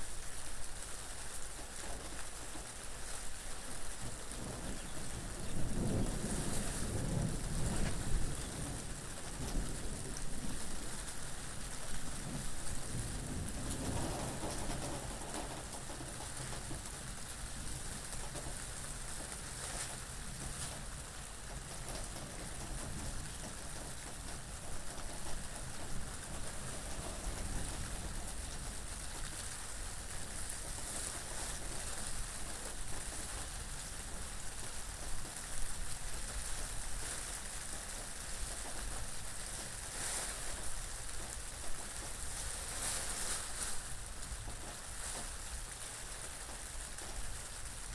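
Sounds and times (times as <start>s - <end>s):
low rumble of wind: 0.0s - 47.9s
steady rain falling: 0.0s - 47.9s.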